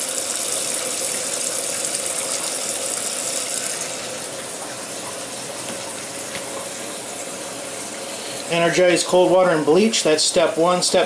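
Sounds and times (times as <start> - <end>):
water rushing into washer: 0.0 - 11.0.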